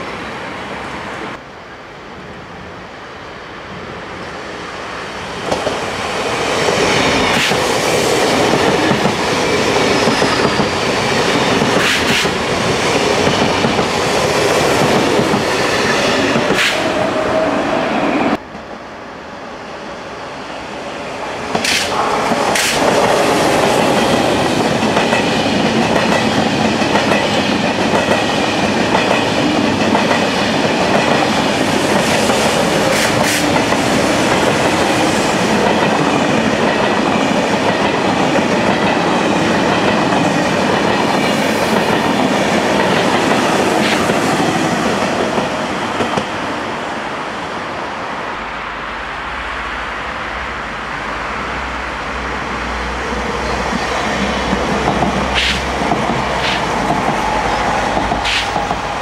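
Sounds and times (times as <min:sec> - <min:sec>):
train passing: 0:00.0 - 0:59.0.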